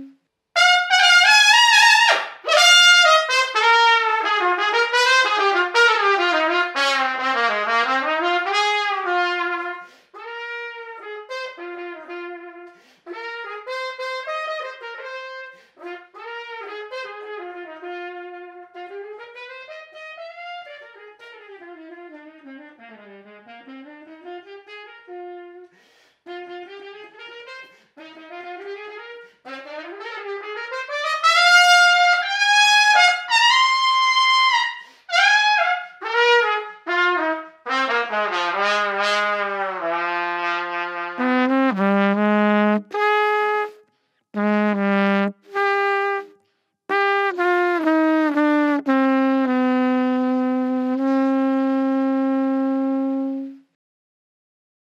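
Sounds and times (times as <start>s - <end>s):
trumpet playing jazz-like runs: 0.0s - 53.8s.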